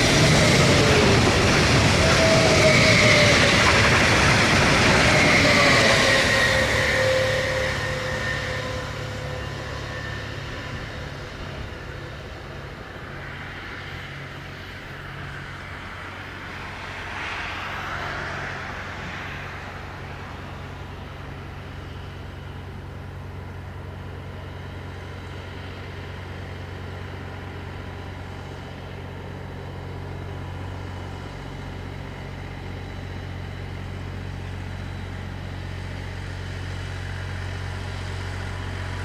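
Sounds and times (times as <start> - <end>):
electric train passing: 0.0 - 39.0
passing traffic noise: 0.0 - 39.0.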